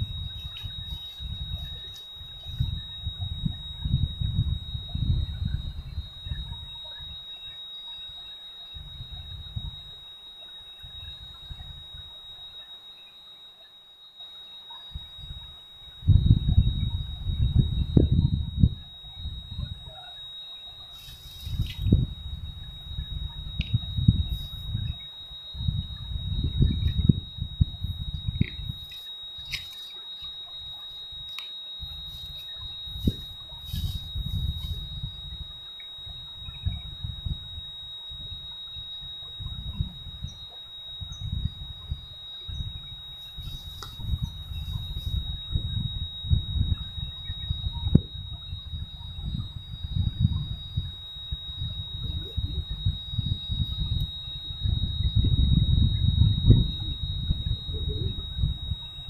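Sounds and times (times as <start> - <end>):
wind buffeting microphone: 0.0 - 7.2, 14.9 - 20.0, 20.8 - 29.7, 30.6 - 59.0
steady high-pitched whine: 0.0 - 59.0.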